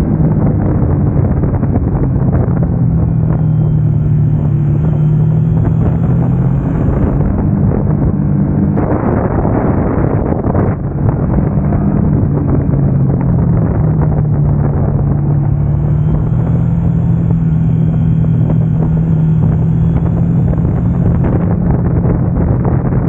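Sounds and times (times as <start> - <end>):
heavy wind rush: 0.0 - 23.0
motorcycle engine running: 0.0 - 23.0.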